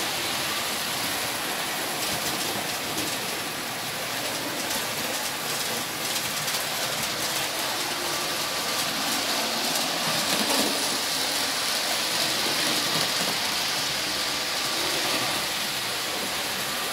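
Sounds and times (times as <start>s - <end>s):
model trains running on track: 0.0s - 16.9s.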